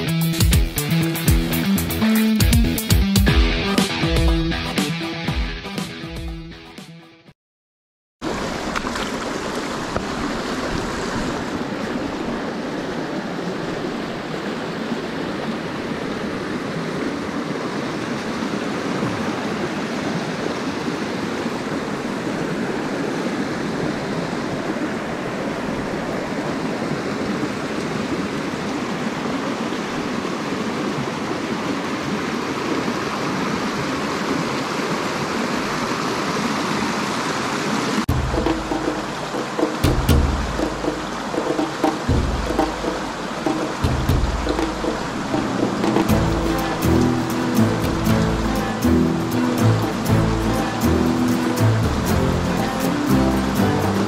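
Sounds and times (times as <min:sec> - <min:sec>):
stream water rushing: 0:00.0 - 0:05.1, 0:08.2 - 0:54.0.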